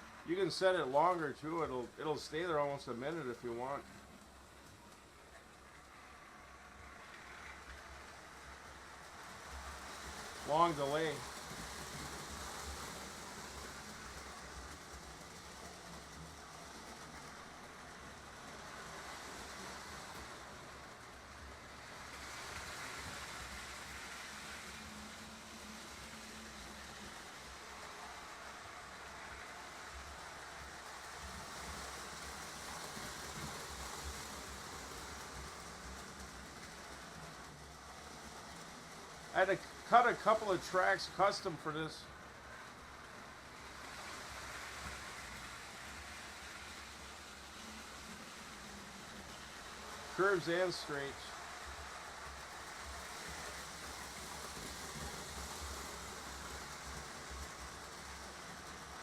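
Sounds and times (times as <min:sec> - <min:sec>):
model trains on metal track: 0:00.0 - 0:59.0.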